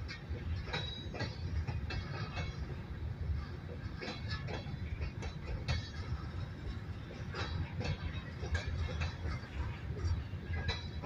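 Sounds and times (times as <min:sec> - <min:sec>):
freight train rumbling past: 0:00.0 - 0:11.0
train wheels clanking: 0:00.0 - 0:11.0.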